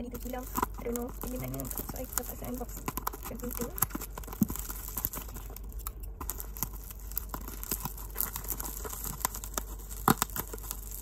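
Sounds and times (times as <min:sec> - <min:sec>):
bubble wrap crackling: 0:00.0 - 0:11.0
scissors cutting plastic: 0:00.0 - 0:11.0.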